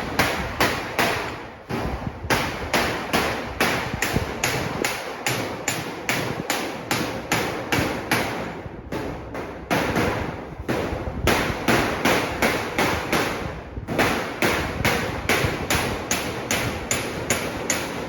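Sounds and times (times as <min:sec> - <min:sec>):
hammering on sheet metal: 0:00.0 - 0:18.0.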